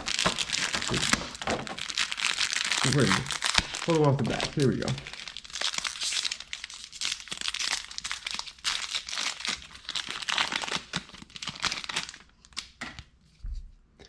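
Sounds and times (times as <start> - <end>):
wrapper crinkling and tearing: 0.0 - 13.1.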